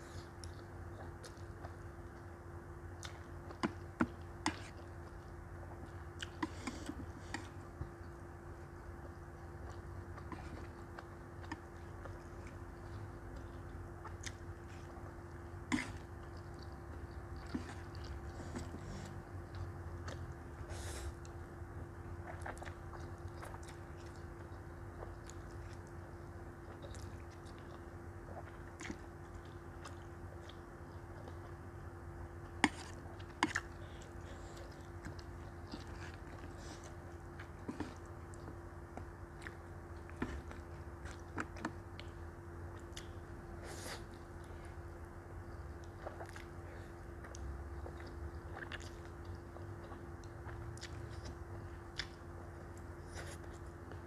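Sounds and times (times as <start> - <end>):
chewing and wet mouth sounds: 0.0 - 54.0
faint steady hum: 0.0 - 54.0.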